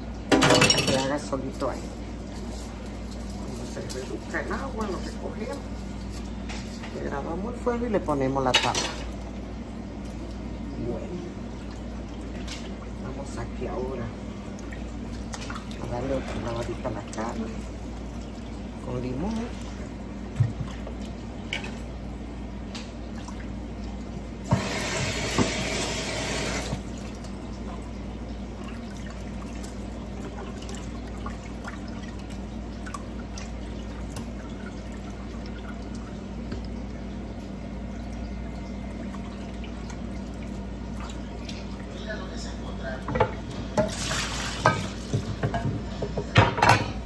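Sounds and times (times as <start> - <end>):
water running: 0.0 - 46.3
steady low hum: 0.0 - 47.0.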